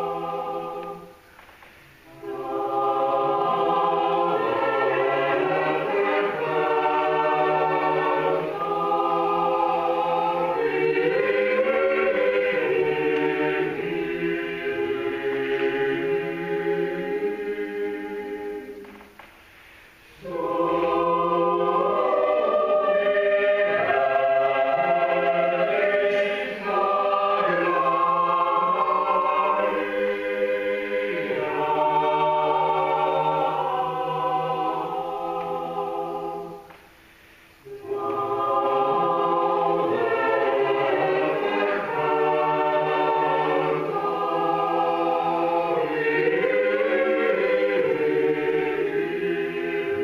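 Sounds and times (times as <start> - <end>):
choir singing a cappella: 0.0 - 50.0.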